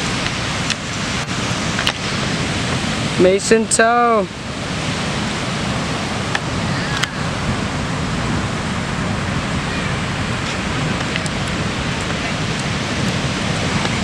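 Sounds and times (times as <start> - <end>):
ocean surf rushing: 0.0 - 14.0.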